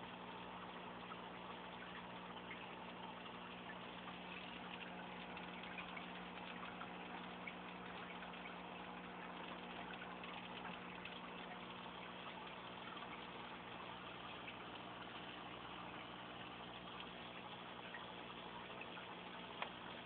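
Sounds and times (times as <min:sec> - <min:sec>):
aquarium pump humming: 0:00.0 - 0:20.0
water trickling and bubbling: 0:00.0 - 0:20.0.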